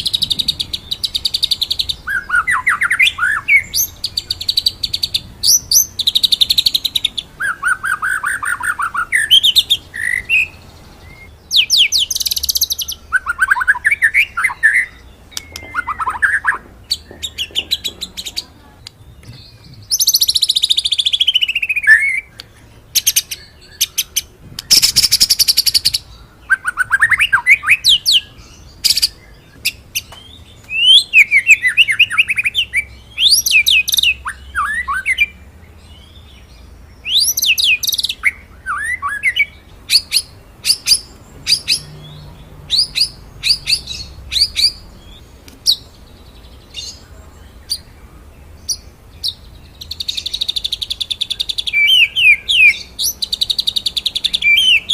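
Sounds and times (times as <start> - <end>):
songbird singing varied song: 0.0 - 54.9.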